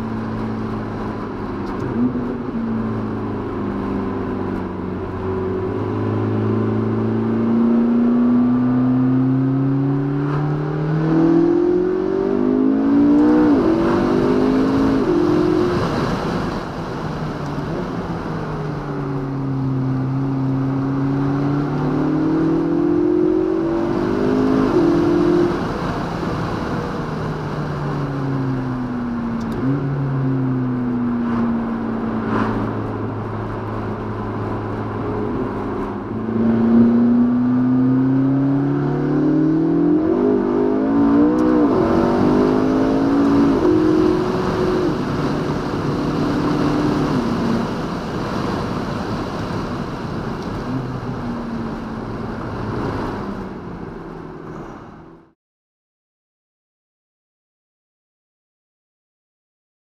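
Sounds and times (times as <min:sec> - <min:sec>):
car engine revving: 0:00.0 - 0:17.8, 0:19.2 - 0:26.8, 0:29.0 - 0:53.3.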